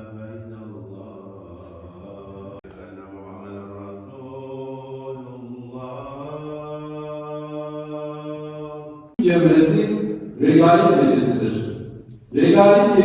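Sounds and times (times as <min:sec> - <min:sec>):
man chanting: 0:00.0 - 0:06.8, 0:09.2 - 0:13.0.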